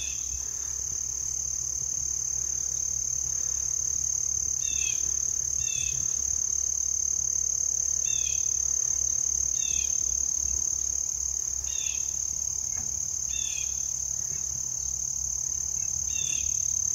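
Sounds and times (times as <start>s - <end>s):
insect chorus: 0.0s - 16.9s.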